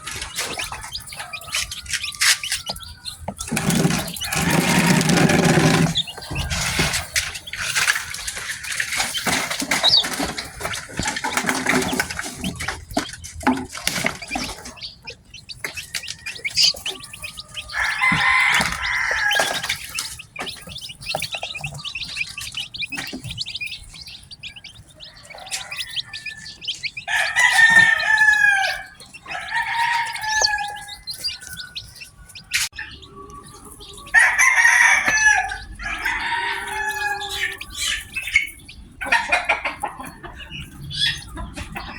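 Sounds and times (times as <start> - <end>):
loud chicken calls: 0.0 - 12.8, 14.0 - 41.9
chicks peeping: 0.0 - 41.9.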